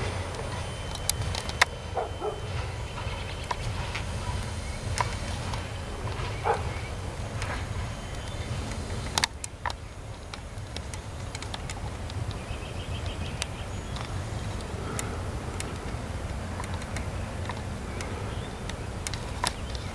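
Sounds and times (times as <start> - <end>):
clicks and clanks from train cars: 0.0 - 19.9
train rumbling past: 0.0 - 19.9.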